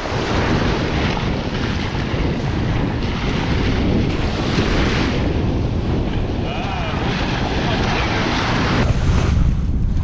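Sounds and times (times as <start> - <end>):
small surf waves washing: 0.0 - 10.0
wind buffeting microphone: 0.0 - 10.0.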